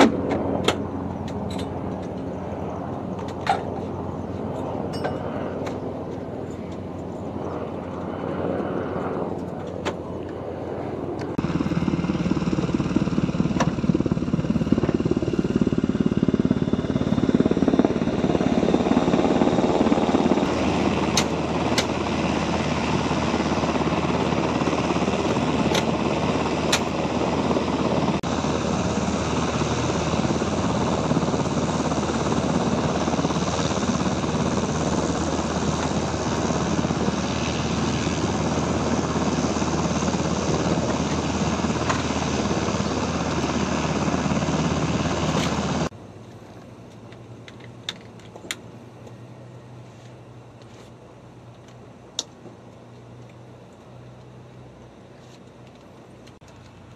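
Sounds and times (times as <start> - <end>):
helicopter turbine engines running: 0.0 - 56.9.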